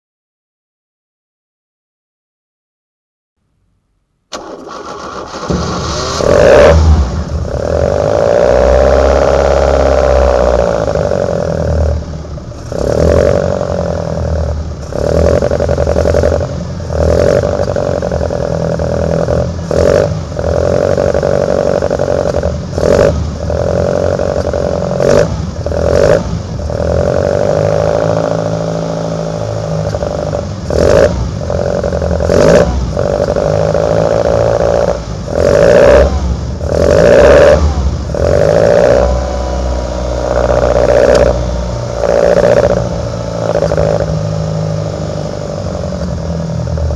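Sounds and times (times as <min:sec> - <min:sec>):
car engine idling with throttle blips: 0:04.3 - 0:46.9.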